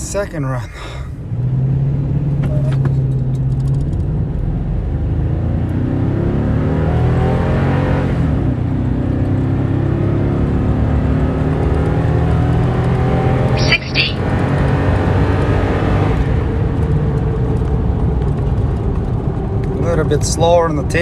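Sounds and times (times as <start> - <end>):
truck engine accelerating hard: 1.2 - 21.0.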